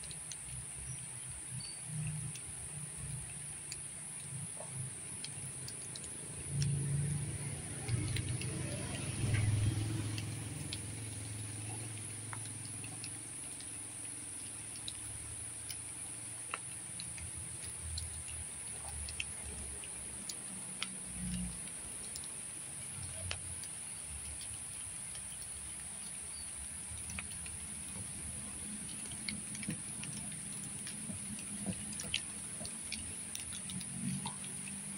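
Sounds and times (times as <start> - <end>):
faint ticks: 0.0 - 34.9
low engine hum: 0.2 - 34.9.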